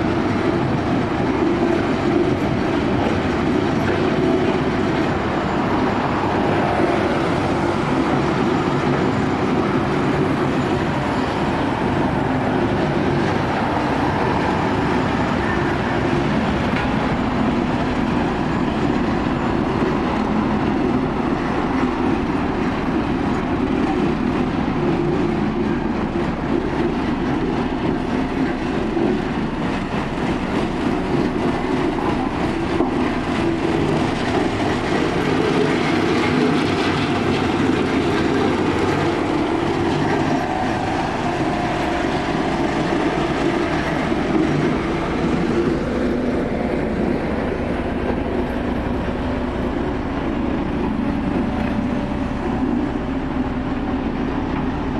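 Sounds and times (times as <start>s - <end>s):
road roller rumbling clatter: 0.0s - 54.9s.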